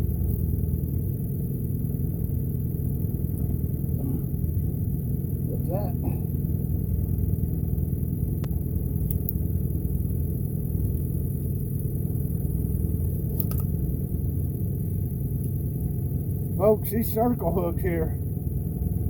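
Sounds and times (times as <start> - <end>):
boat motor rumbling: 0.0 - 19.0.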